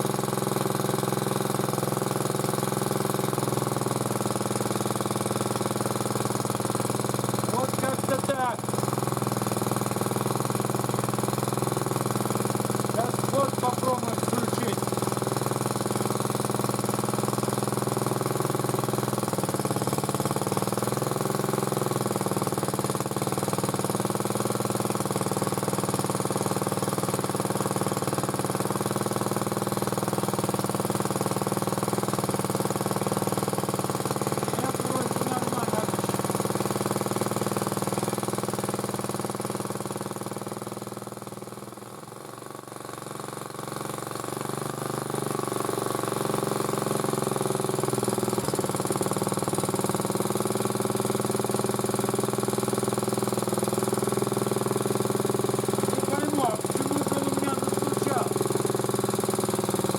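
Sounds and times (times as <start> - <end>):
cultivator engine running: 0.0 - 59.9.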